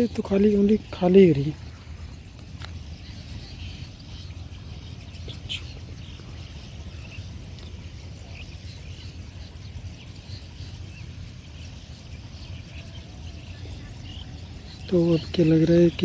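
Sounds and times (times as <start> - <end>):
low rumble: 0.0 - 15.8
small birds chirping: 0.0 - 16.0.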